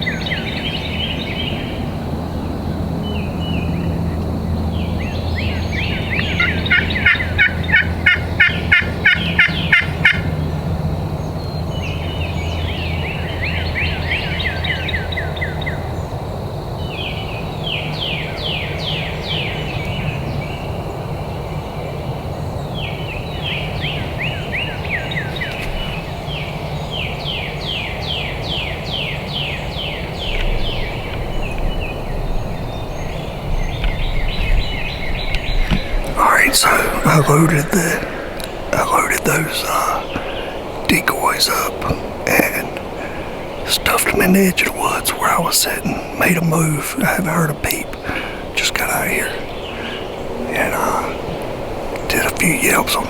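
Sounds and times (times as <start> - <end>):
loud evenly spaced bird calls: 0.0 - 53.0
wild birds singing trilled phrases: 0.0 - 53.0.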